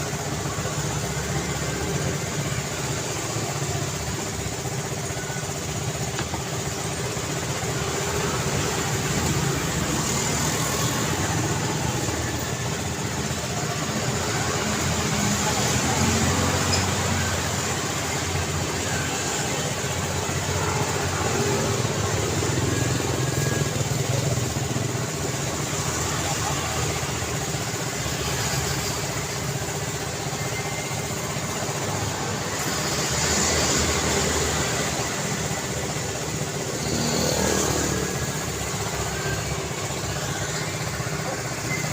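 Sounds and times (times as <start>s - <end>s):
traffic hum: 0.0s - 41.9s
vehicles passing by: 0.0s - 41.9s.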